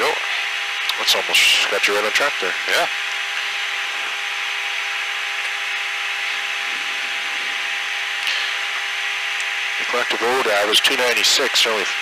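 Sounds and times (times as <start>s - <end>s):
faint steady hum: 0.0s - 12.0s
high steady whine: 0.0s - 12.0s
turbofan engines: 0.0s - 12.0s.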